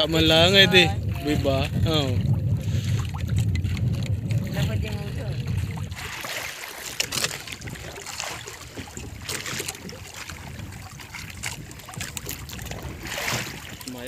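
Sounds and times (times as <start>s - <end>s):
water lapping against boat: 0.0s - 14.0s.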